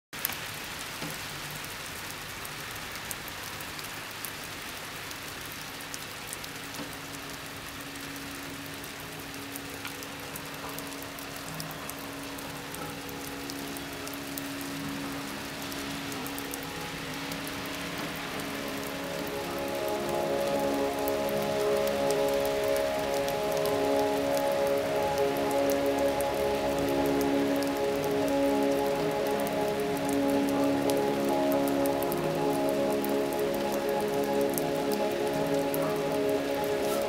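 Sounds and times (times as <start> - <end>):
rain on a window: 0.2 - 37.0
raindrops ticking on glass: 0.2 - 37.0.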